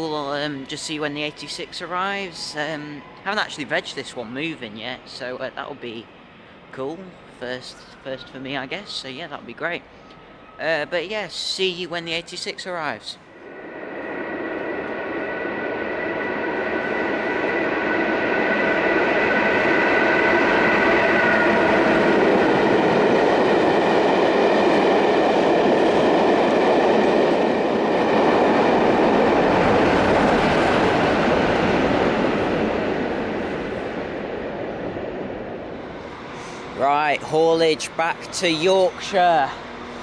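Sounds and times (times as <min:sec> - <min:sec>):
high whine: 0:00.0 - 0:40.0
train passing: 0:00.0 - 0:40.0.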